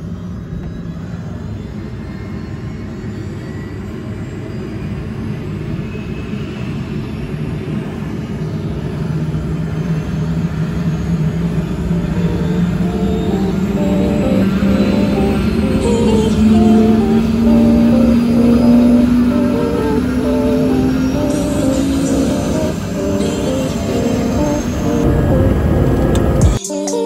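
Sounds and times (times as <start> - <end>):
helicopter engine and rotor: 0.0 - 26.6.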